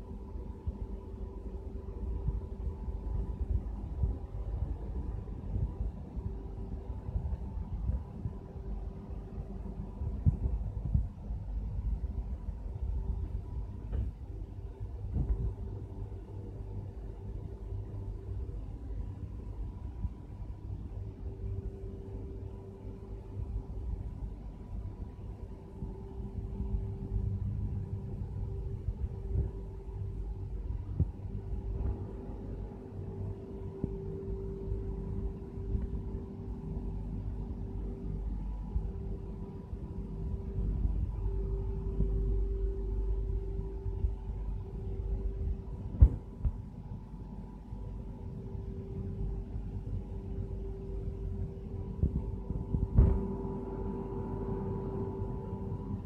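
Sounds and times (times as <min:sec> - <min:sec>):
laser cutting machinery hum: 0:00.0 - 0:56.0.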